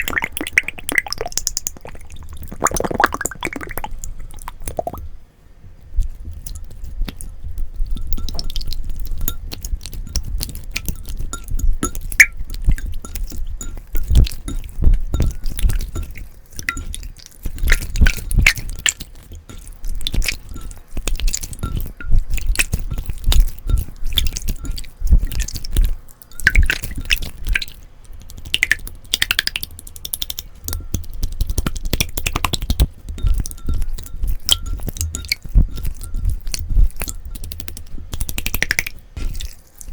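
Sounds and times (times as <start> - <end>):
slime squishing wet clicks: 0.0 - 5.1, 6.0 - 39.9.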